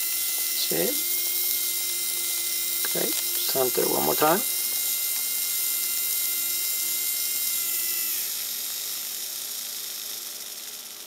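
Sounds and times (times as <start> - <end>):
faint gear sound: 0.0 - 11.0
servo motor whine: 0.0 - 11.0.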